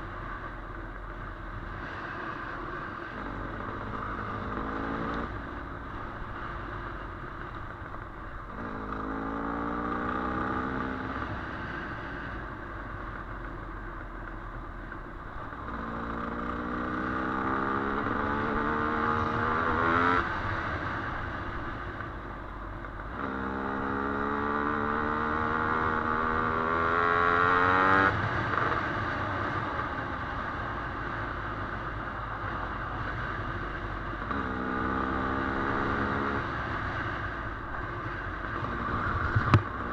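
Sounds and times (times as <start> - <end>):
wind and riding noise: 0.0 - 39.9.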